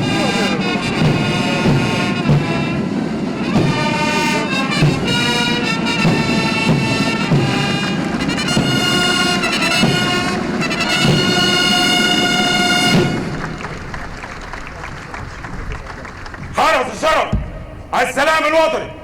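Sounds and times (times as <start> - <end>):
steady drum beat: 0.0 - 17.8
held brass notes: 0.0 - 17.9.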